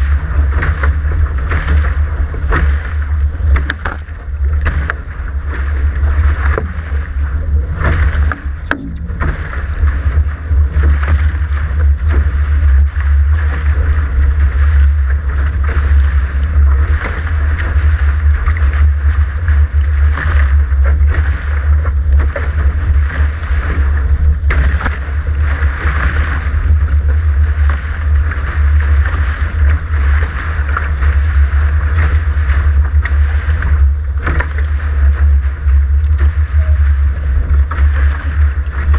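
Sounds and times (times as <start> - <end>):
water rushing along hulls: 0.0 - 38.9
wind buffeting camera: 0.0 - 38.9.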